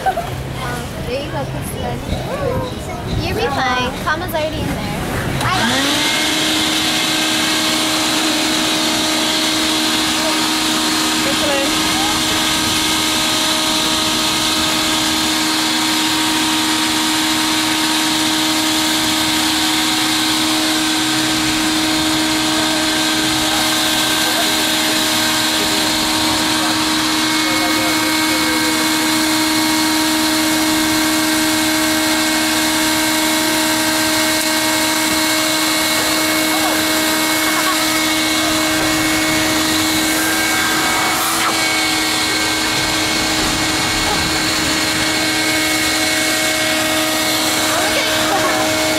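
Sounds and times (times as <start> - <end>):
electric air blower running: 3.5 - 48.9.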